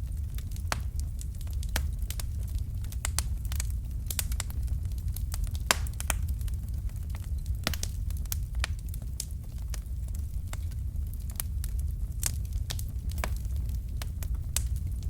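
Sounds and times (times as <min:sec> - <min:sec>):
fire popping and snapping: 0:00.0 - 0:15.0
low rumble of flames: 0:00.0 - 0:15.0.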